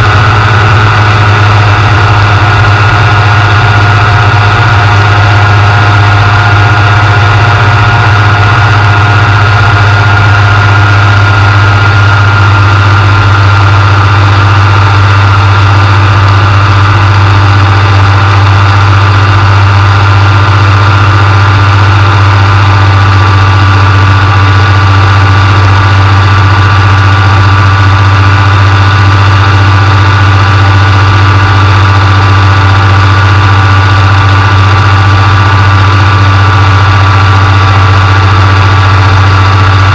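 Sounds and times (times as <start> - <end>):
aircraft engine droning: 0.0 - 39.9
propeller whine: 0.0 - 39.9.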